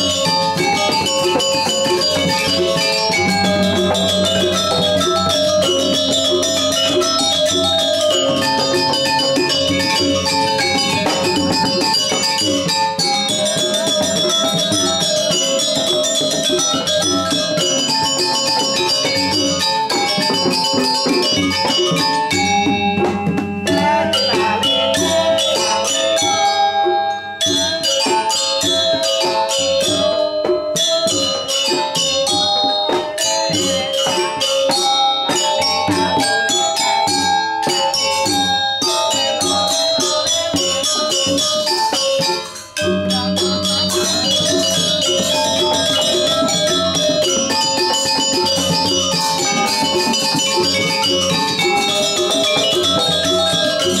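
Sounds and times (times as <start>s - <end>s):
drums: 0.0s - 26.8s, 27.4s - 54.0s
metallophones ringing: 0.0s - 54.0s.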